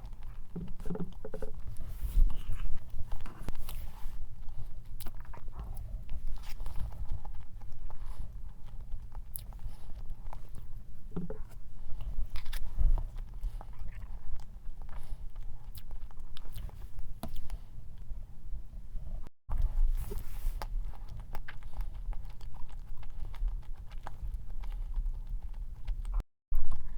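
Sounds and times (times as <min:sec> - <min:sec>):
person chewing with wet mouth sounds: 0:00.0 - 0:18.2, 0:19.5 - 0:26.9.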